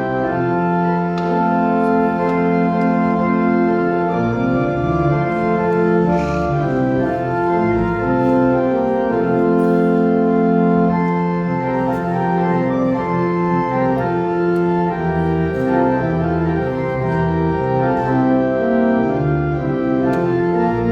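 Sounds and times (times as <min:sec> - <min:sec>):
church organ chords: 0:00.0 - 0:20.9.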